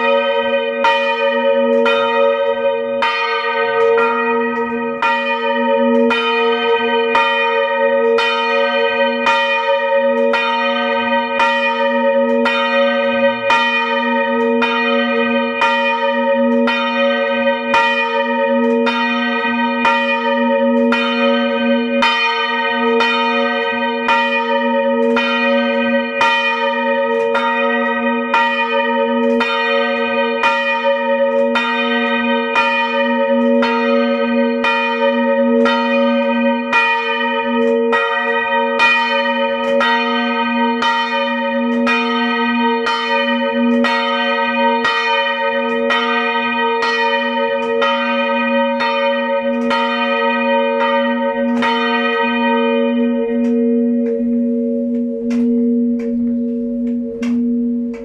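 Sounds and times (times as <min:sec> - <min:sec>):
church bells tolling: 0:00.0 - 0:58.0.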